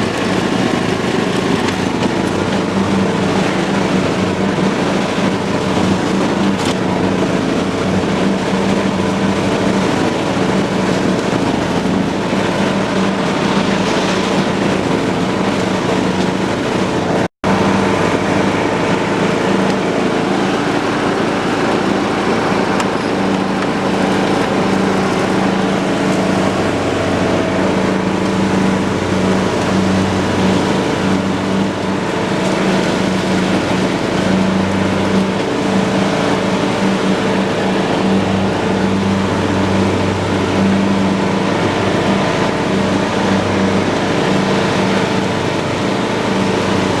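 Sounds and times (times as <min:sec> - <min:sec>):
lawn tractor engine running: 0:00.0 - 0:47.0
mower deck whir: 0:00.0 - 0:47.0.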